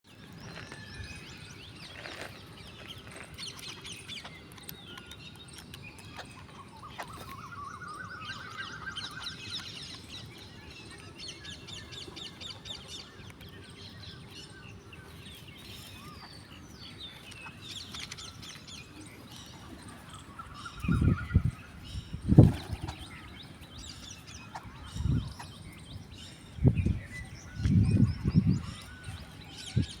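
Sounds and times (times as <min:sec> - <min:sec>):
birds chirping and twittering: 0:00.1 - 0:30.0.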